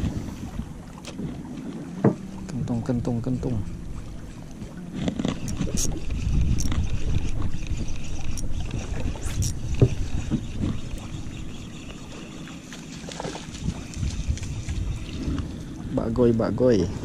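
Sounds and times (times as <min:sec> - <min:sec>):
water and wind noise: 0:00.0 - 0:17.0.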